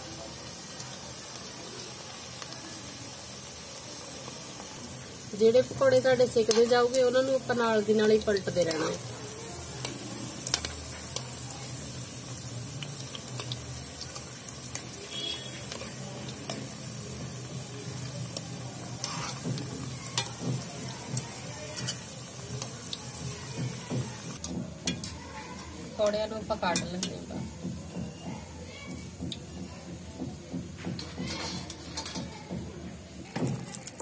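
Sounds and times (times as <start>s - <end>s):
food deep-frying in oil: 0.0s - 34.0s.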